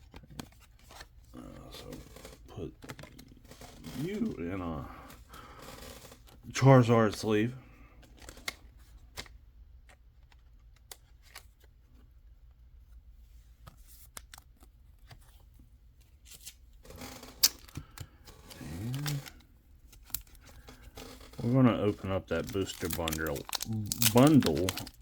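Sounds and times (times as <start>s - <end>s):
cards rustling in plastic sleeve: 0.0s - 11.8s, 13.2s - 25.0s.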